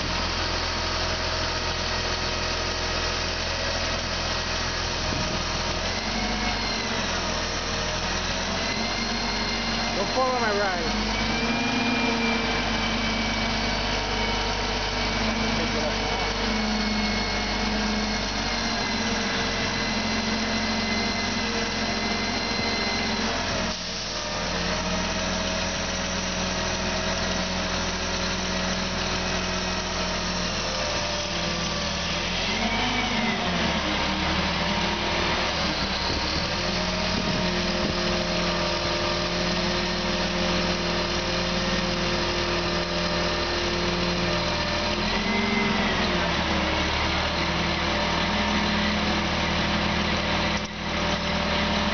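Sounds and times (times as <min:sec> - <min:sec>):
crane diesel engine running: 0:00.0 - 0:51.9.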